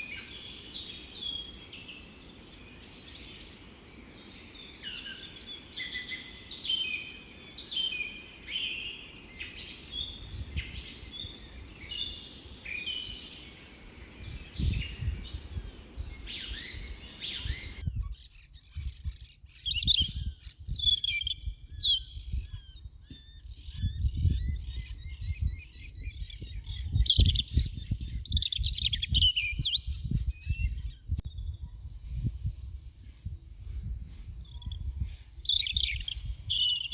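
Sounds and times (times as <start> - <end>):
songbirds chirping and singing: 0.0 - 32.6, 33.5 - 36.9.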